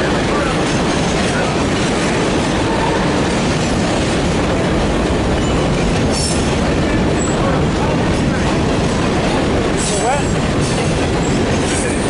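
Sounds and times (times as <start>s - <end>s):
freight train wheels on rail: 0.0s - 12.0s.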